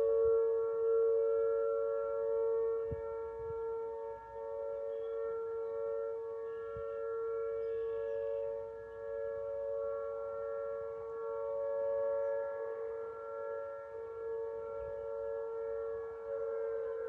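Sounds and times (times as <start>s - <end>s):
tornado siren two-note tone: 0.0s - 17.0s.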